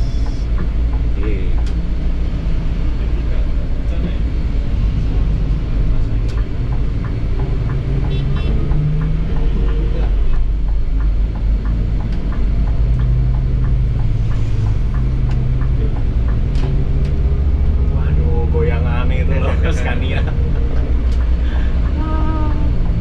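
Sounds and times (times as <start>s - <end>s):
diesel coach engine droning: 0.0s - 23.0s.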